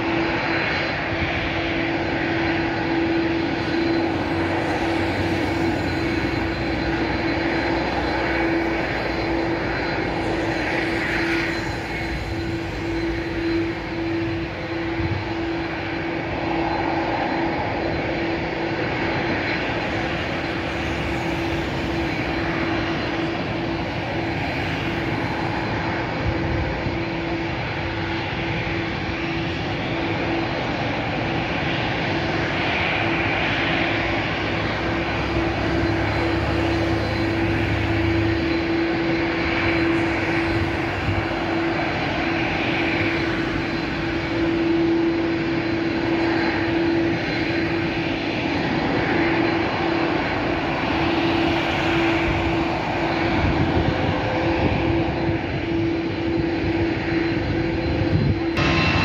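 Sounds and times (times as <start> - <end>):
jet engines idling whine: 0.0 - 59.0.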